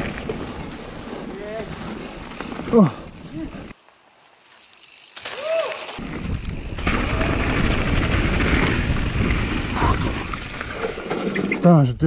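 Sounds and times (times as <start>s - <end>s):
bike rattling over bumps: 0.0s - 3.8s, 4.4s - 12.0s.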